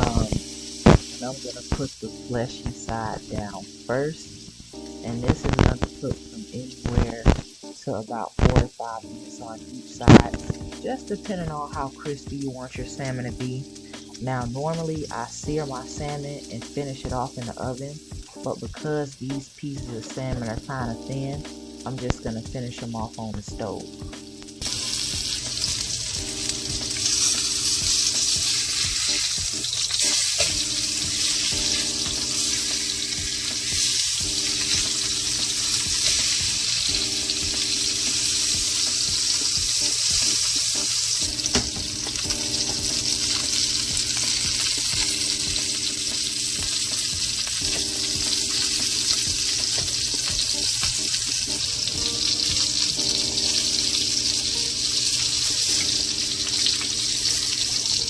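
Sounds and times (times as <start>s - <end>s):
fish sizzling in oil: 0.0s - 58.0s.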